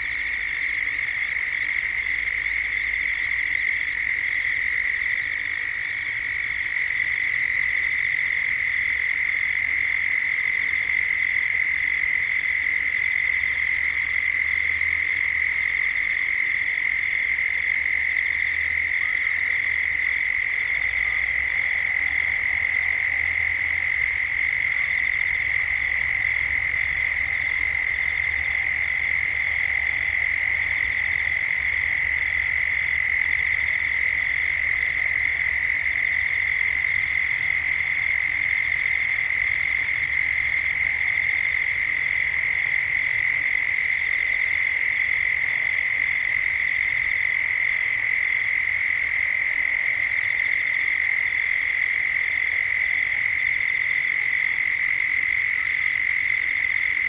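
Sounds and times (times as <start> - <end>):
cicadas droning: 0.0 - 57.0.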